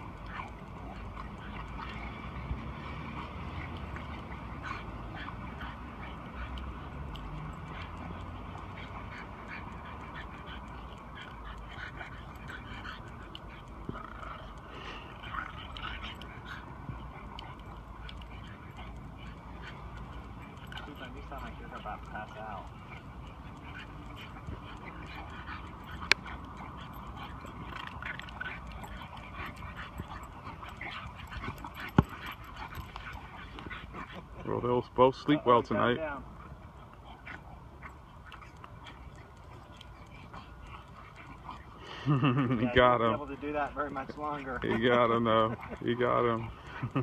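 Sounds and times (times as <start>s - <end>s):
puppies making nasal vocal noises: 0.0s - 47.0s.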